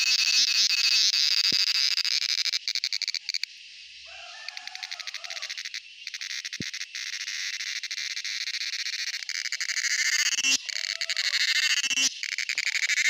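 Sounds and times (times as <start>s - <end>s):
cicada buzzing: 0.0s - 13.0s.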